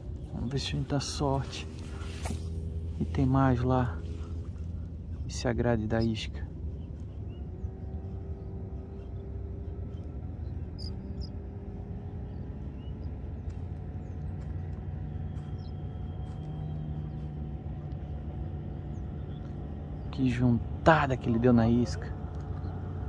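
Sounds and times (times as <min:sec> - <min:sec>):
faint motor hum: 0:00.0 - 0:23.0
steady low rumble: 0:00.0 - 0:23.0.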